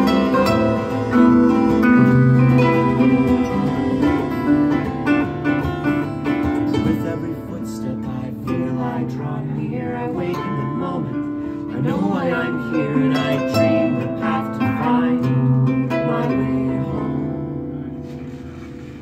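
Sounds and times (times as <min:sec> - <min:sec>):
acoustic guitar playing: 0:00.0 - 0:19.0
harp playing: 0:00.0 - 0:19.0.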